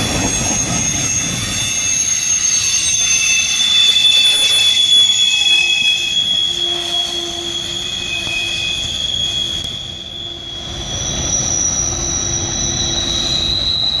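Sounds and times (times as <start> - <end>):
low rumble of train cars: 0.0 - 14.0
train wheels squealing: 0.0 - 14.0.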